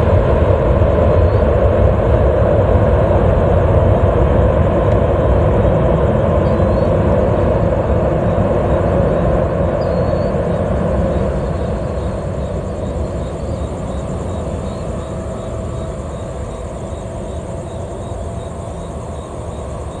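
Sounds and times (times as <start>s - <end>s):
jet engines rumbling and whining: 0.0s - 20.0s
insects chirping: 0.1s - 20.0s.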